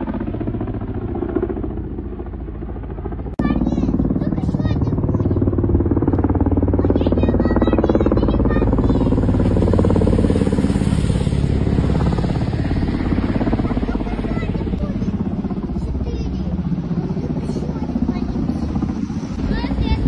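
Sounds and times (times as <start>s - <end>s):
helicopter rotors chopping: 0.0s - 20.0s.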